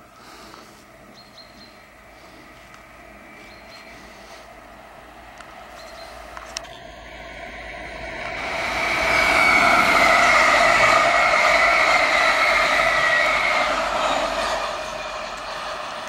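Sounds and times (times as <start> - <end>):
train rushing past: 0.0 - 16.0
high whining tone: 1.0 - 16.0.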